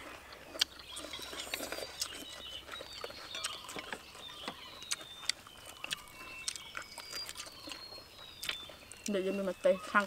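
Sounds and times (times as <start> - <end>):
crunchy chewing: 0.0 - 10.0
faint high bird calls: 0.6 - 10.0.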